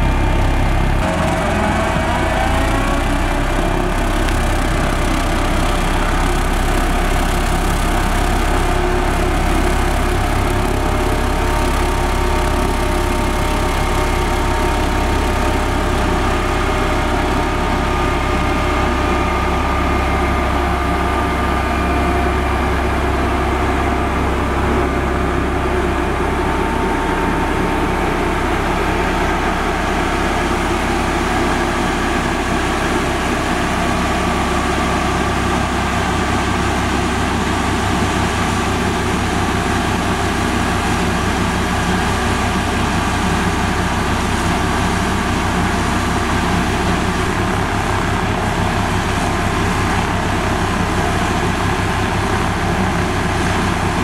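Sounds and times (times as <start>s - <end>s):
road roller diesel engine drone: 0.0s - 54.0s.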